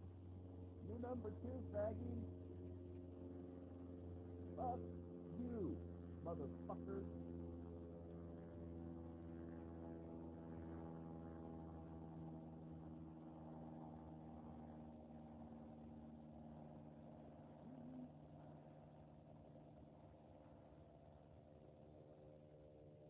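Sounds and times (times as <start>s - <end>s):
propeller airplane engine drone: 0.0s - 23.0s.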